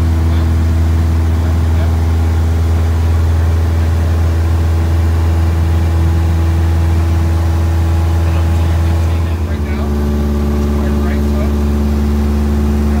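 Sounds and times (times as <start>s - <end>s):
aircraft engine and propeller drone: 0.0s - 13.0s.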